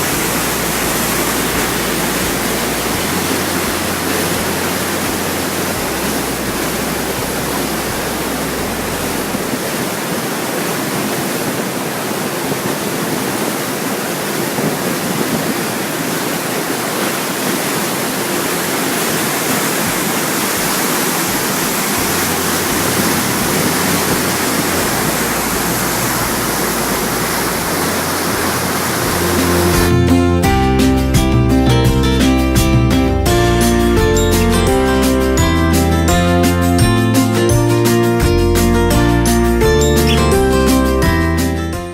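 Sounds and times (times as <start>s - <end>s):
river water rushing: 0.0s - 31.2s, 33.0s - 38.2s, 38.9s - 41.8s.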